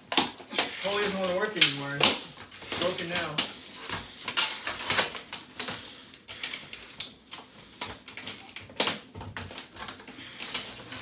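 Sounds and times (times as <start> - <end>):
plastic parts clicking and knocking: 0.0 - 11.0.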